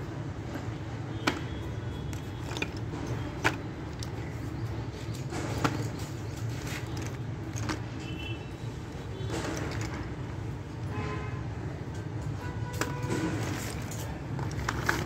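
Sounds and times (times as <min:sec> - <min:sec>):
slate pencils clicking and rattling: 0:00.5 - 0:08.2, 0:08.9 - 0:10.3, 0:11.8 - 0:15.0.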